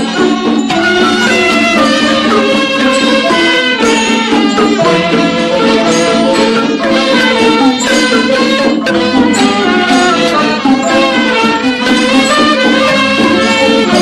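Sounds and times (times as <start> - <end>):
instrumental melody: 0.0 - 14.0.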